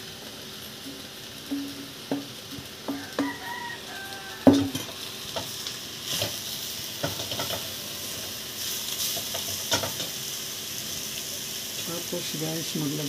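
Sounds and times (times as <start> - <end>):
meat sizzling: 0.0 - 13.0.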